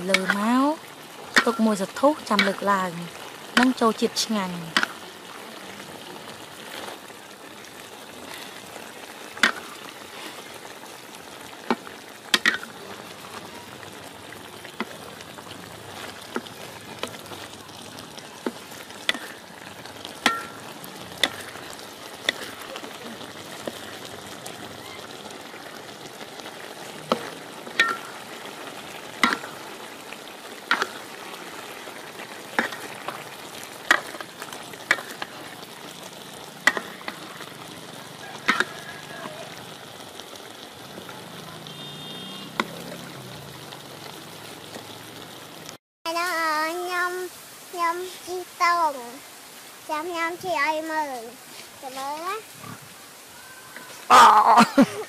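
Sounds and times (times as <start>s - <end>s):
sharp pops and crackles: 0.0s - 45.8s
sauce sizzling in a pan: 0.0s - 55.0s.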